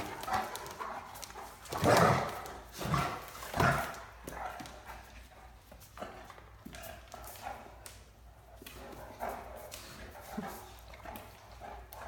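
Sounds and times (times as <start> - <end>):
dogs barking while playing: 0.0 - 12.0.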